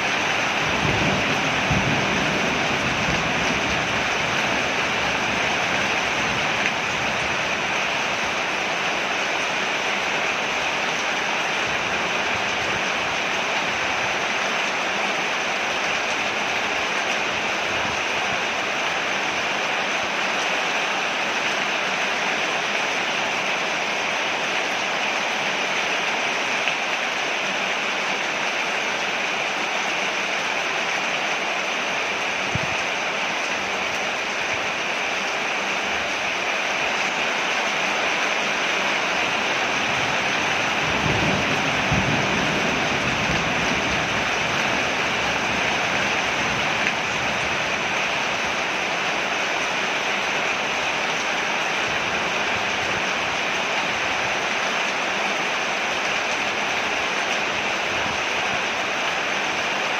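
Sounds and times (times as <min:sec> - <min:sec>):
heavy rain on a porch: 0:00.0 - 0:59.9.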